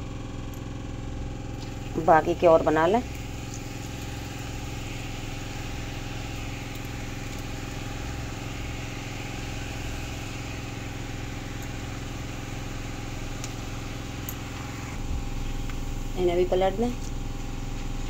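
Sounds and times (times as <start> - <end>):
low mechanical hum: 0.0 - 18.0
oil sizzling and bubbling: 0.1 - 18.0.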